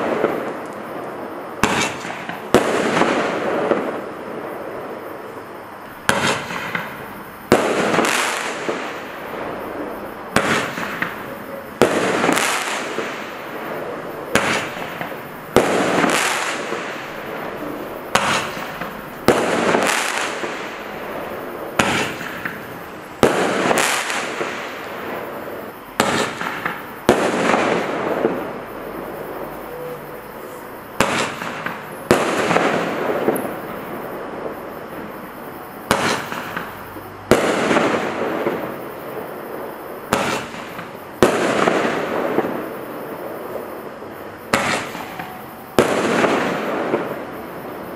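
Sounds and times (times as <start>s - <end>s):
firework hiss and crackle: 0.0s - 47.9s.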